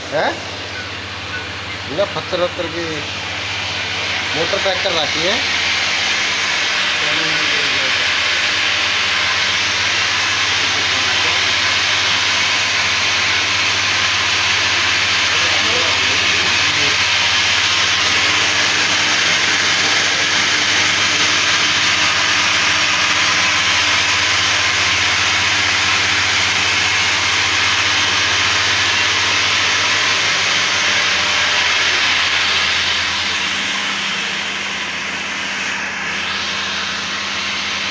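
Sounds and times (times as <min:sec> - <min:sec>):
pump motor hum: 0:00.0 - 0:37.9.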